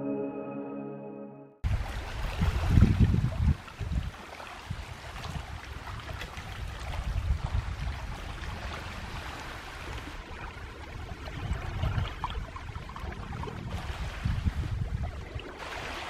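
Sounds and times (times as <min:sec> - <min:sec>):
wind buffeting microphone: 0:01.7 - 0:15.4
small waves lapping: 0:01.7 - 0:16.0.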